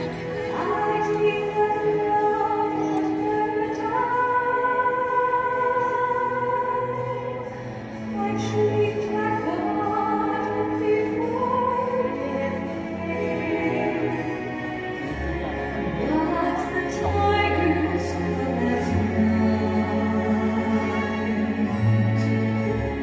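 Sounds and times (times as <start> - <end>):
backing music: 0.0 - 23.0
operatic singing voice: 0.0 - 23.0.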